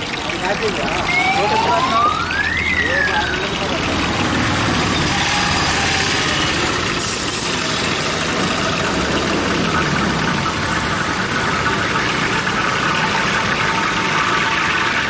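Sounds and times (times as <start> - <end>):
engine idling: 0.0 - 15.0
hot oil sizzling: 0.0 - 15.0.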